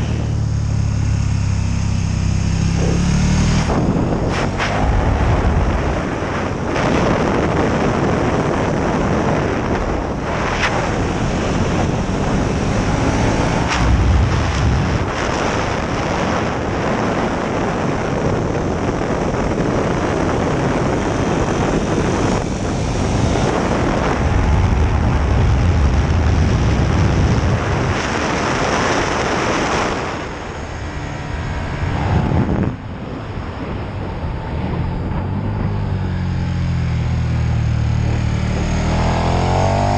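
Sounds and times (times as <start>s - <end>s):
motorcycle engine at speed: 0.0s - 39.9s
wind rushing over microphone: 0.0s - 39.9s.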